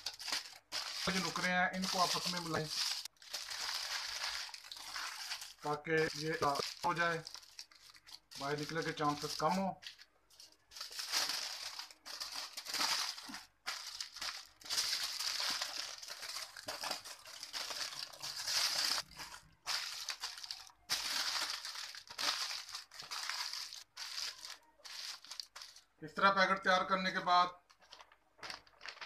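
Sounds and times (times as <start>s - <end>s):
aluminium foil crinkling: 0.0s - 26.0s, 27.7s - 29.0s.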